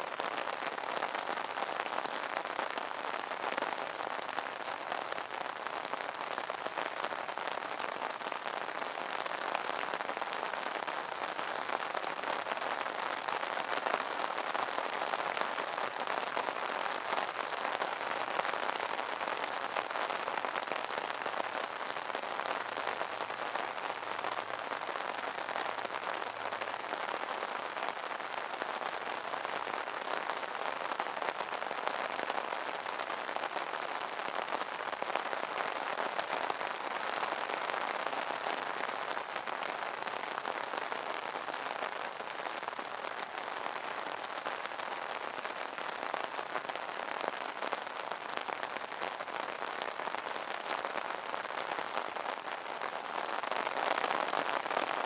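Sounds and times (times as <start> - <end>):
rain on an umbrella: 0.0 - 55.0.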